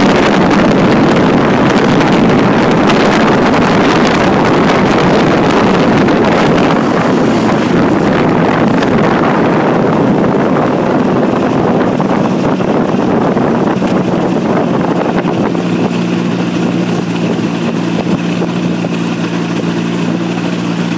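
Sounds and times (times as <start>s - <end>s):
wind rushing: 0.0s - 20.2s
light aircraft engine and propeller: 0.0s - 20.9s.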